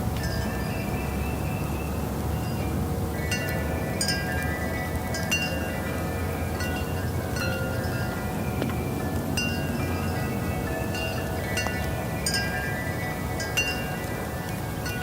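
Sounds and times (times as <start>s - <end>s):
steady low rumble: 0.0s - 15.0s
wind chimes ringing: 0.0s - 15.0s.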